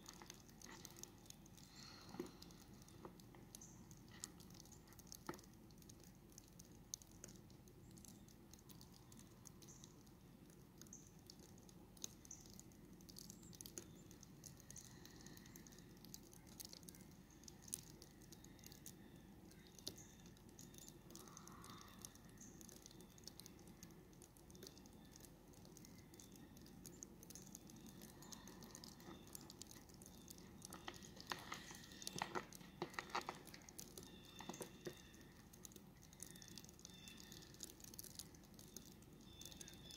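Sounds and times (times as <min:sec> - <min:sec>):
crackling clicks: 0:00.0 - 0:39.9
soft ticks: 0:00.0 - 0:39.9.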